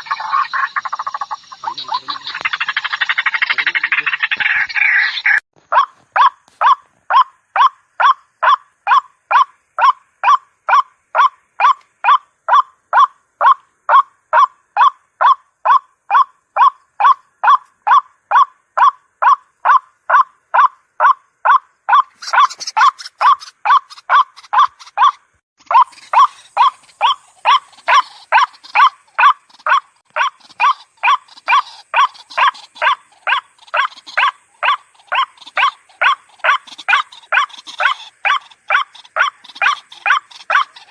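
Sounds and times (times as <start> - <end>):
bird croaking calls: 0.0 - 40.9.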